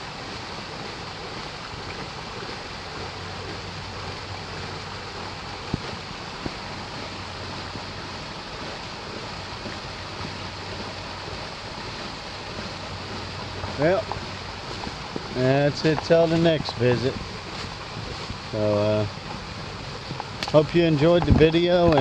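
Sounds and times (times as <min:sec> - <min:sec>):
water pouring onto water wheel: 0:00.0 - 0:22.0.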